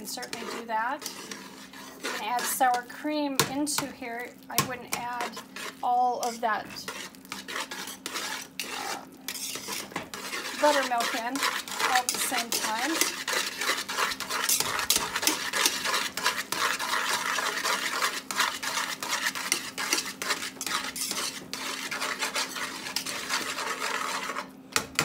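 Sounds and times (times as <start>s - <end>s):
wire whisk scraping metal pot: 0.0s - 3.9s, 4.5s - 25.0s.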